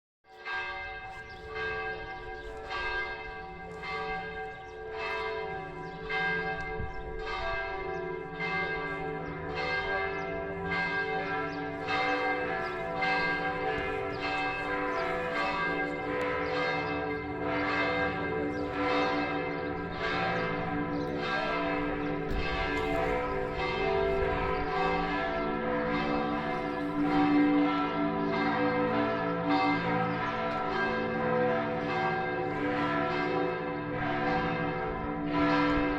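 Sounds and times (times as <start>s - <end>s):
church bells ringing: 0.3s - 35.9s.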